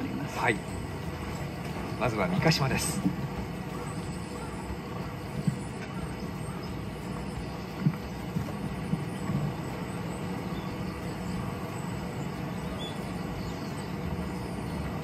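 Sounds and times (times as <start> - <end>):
low rumble and hiss of ambience: 0.0 - 15.0.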